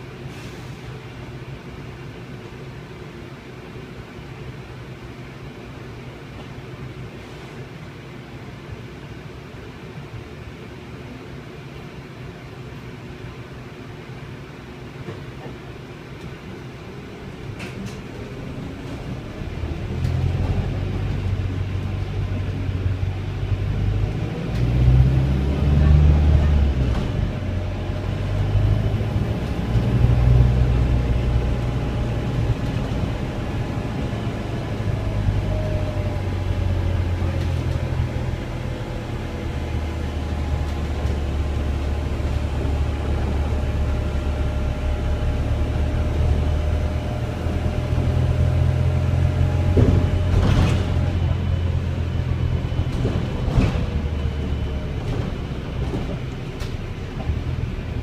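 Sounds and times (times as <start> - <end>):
bus drivetrain rumble: 0.0 - 58.0.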